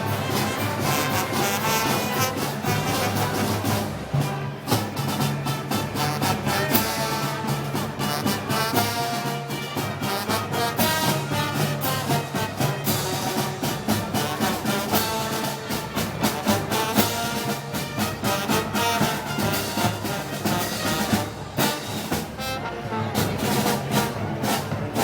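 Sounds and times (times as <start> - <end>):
brass band playing march: 0.0 - 25.0
drum and cymbal beat: 0.0 - 25.0.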